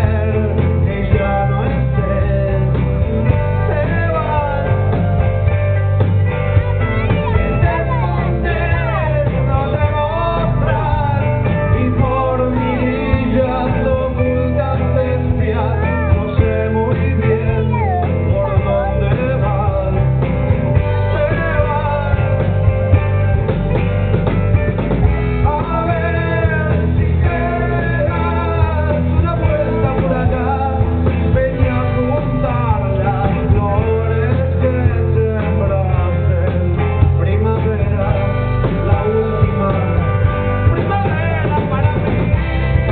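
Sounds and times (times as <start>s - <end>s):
guitar: 0.0s - 42.9s
person singing: 0.0s - 42.9s
rock band playing live: 0.0s - 42.9s.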